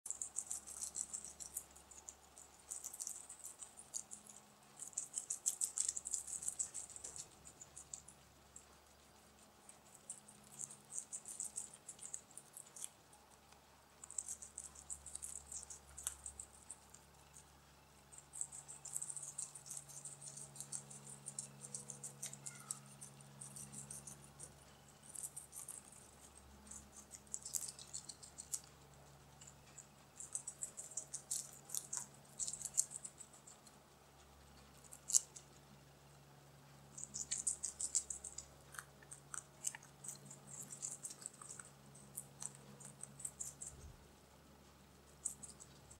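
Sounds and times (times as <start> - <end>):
guinea pig crunching food: 0.0 - 45.9.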